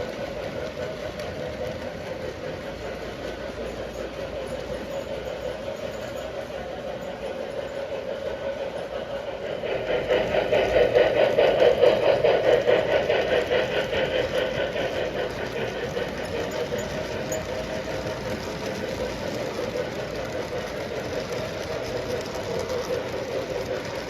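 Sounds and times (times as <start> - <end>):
train wheels clicking over rail joints: 0.0 - 24.0.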